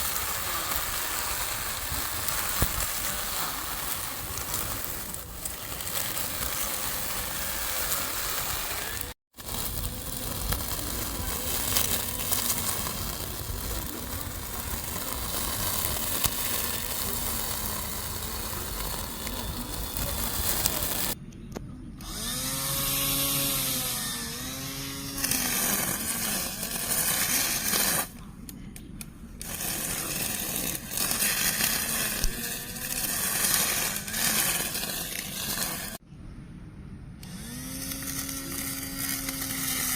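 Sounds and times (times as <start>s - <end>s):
electric lawn mower running: 0.0s - 21.2s, 22.0s - 28.2s, 29.4s - 36.0s, 37.2s - 39.9s.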